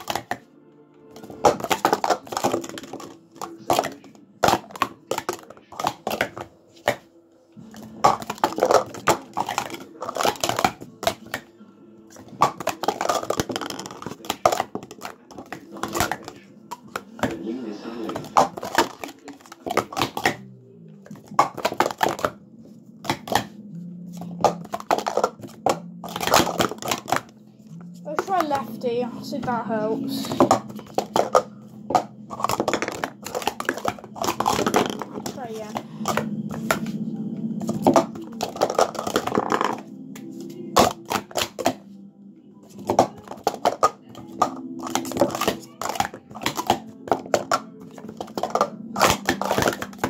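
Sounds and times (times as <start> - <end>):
plastic cups clacking: 0.0 - 0.5, 1.1 - 42.0, 42.6 - 50.0.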